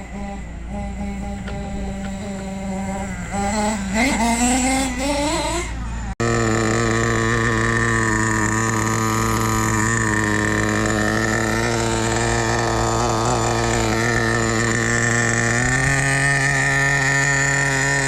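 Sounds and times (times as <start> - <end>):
two-stroke nitro engine running: 0.0 - 18.0.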